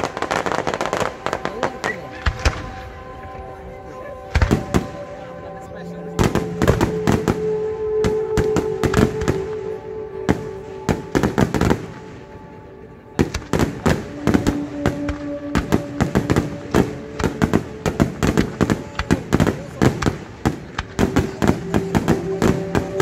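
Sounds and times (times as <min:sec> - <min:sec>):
fireworks bursting: 0:00.0 - 0:03.4, 0:04.2 - 0:05.4, 0:06.2 - 0:23.0.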